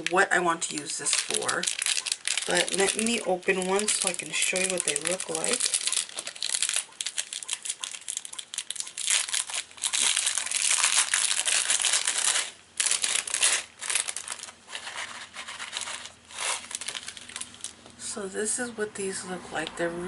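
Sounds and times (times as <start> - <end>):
plastic packet crinkling: 0.0 - 18.0.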